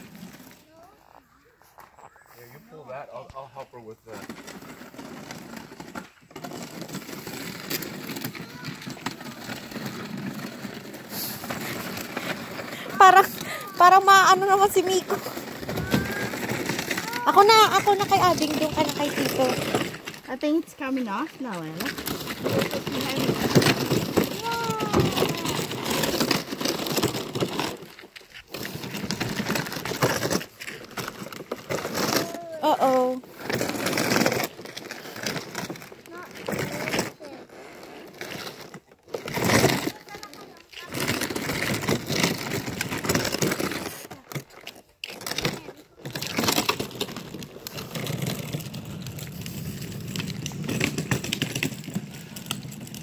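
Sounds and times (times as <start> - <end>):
gravel crunching and scraping: 0.0 - 53.0.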